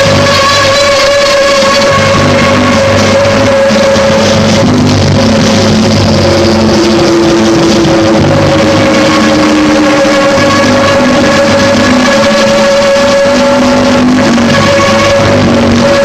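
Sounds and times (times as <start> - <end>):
loud electric guitar music: 0.0 - 16.0.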